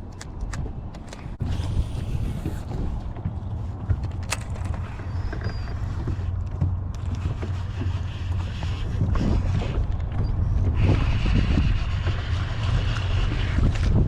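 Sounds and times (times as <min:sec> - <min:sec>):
boat engine rumble: 0:00.0 - 0:14.0
wind on microphone: 0:00.0 - 0:14.0.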